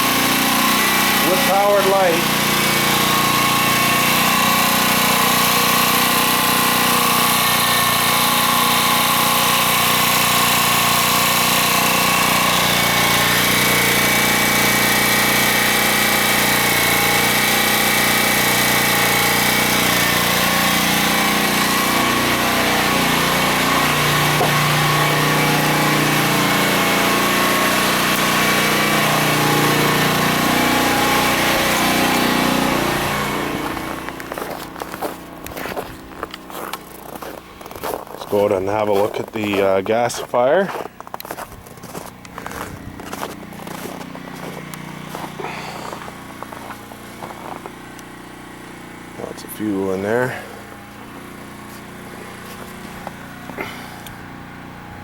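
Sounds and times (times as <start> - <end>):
small generator engine running: 0.0 - 55.0.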